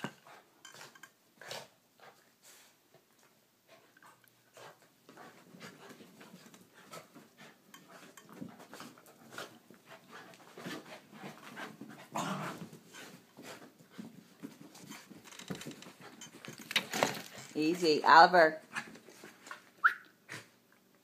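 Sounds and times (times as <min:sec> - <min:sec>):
dogs play-fighting: 0:00.0 - 0:17.6, 0:18.6 - 0:21.0.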